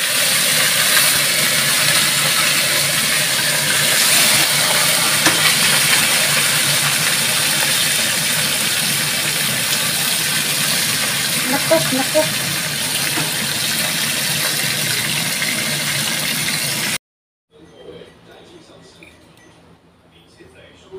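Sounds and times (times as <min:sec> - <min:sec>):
oil sizzling in pan: 0:00.0 - 0:17.0.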